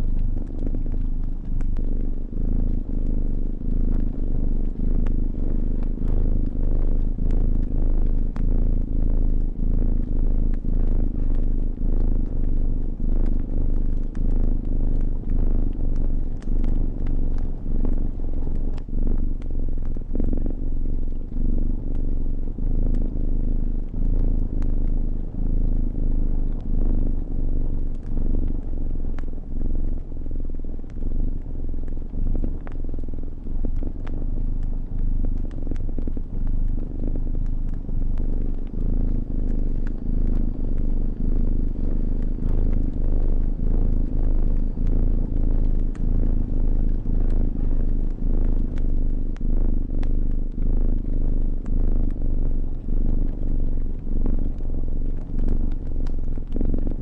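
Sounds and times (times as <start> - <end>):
cat purring: 0.0 - 57.0
fire crackling: 0.0 - 57.0.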